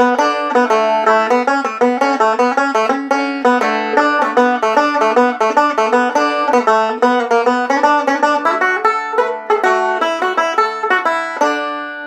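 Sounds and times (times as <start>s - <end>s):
banjo picking: 0.0s - 12.0s.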